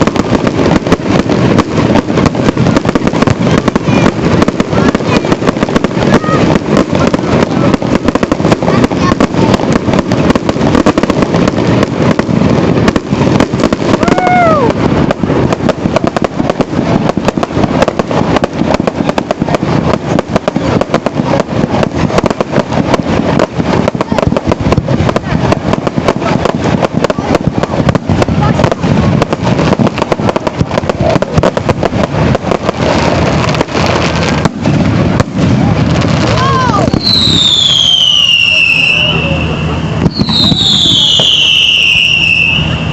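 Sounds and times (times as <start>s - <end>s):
continuous rumble: 0.0s - 42.9s
fireworks bangs and crackles: 0.0s - 42.9s.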